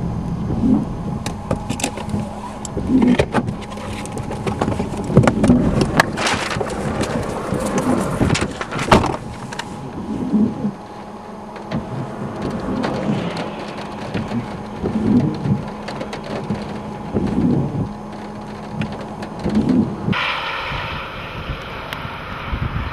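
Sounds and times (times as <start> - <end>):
heavy rain: 0.0 - 19.5
low thunder rumbles: 0.0 - 22.9
wind: 0.0 - 22.9
patter of sharp hits: 0.3 - 17.4, 20.1 - 22.9.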